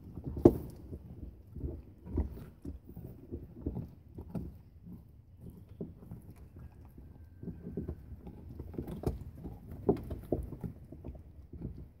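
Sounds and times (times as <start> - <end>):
dog chewing and crunching bone: 0.0 - 12.0.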